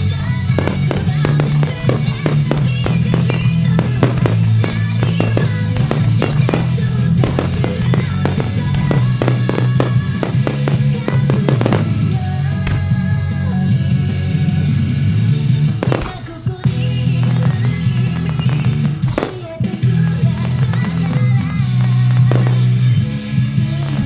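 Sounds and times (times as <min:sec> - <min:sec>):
fireworks bursting and cracking: 0:00.0 - 0:24.0
rock song over loudspeakers: 0:00.0 - 0:24.0.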